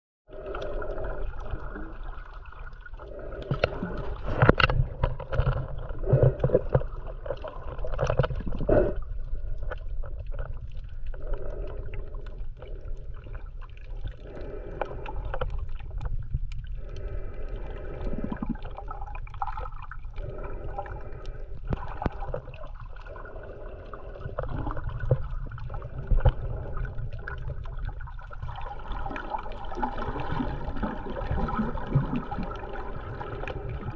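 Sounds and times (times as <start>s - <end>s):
muffled underwater rumble: 0.3s - 33.9s
underwater clicks and bubbling: 0.3s - 33.9s.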